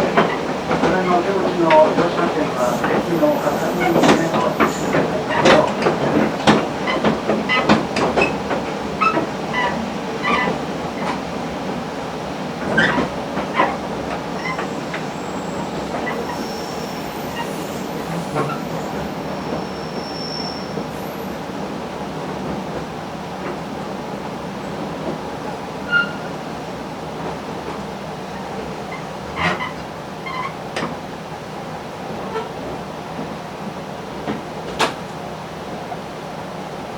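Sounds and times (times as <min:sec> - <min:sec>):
diesel railcar running: 0:00.0 - 0:36.9.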